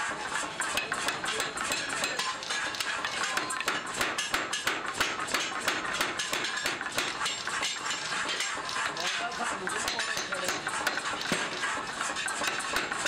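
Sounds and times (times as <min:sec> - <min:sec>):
hammer striking steel on anvil: 0:00.3 - 0:13.0.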